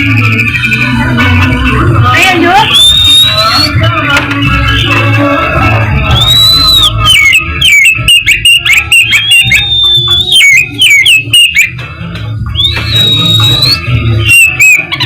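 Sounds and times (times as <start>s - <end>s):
magpie-robin singing: 0.0s - 15.0s.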